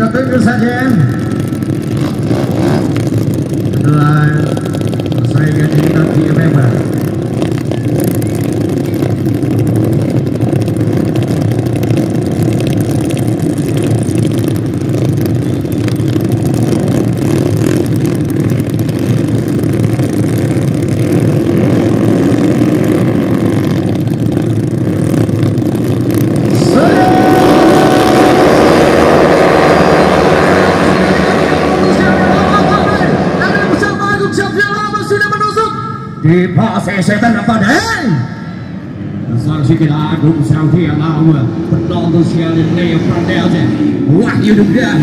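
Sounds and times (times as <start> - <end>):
motorcycles revving and accelerating: 0.0 - 35.2, 37.1 - 45.0.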